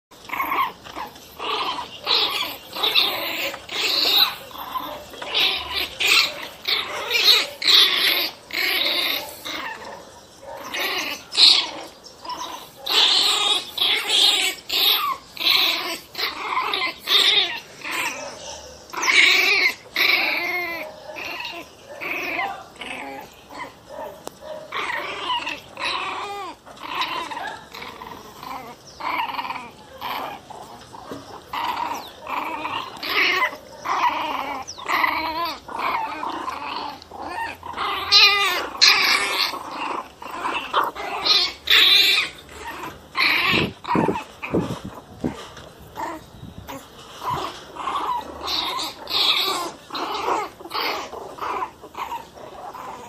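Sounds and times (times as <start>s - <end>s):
dog whining and crying: 0.2s - 53.0s.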